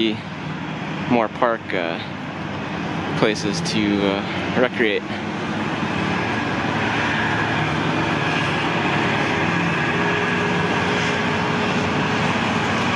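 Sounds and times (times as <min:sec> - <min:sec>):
large vehicle engine passing: 0:00.0 - 0:12.9.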